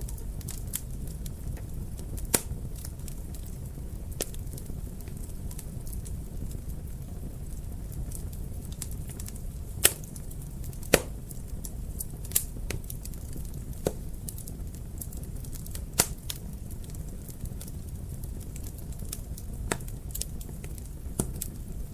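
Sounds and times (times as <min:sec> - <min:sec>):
fire crackling: 0:00.0 - 0:21.9
low rumble of burning: 0:00.0 - 0:21.9
sharp pops of fire: 0:00.1 - 0:21.8.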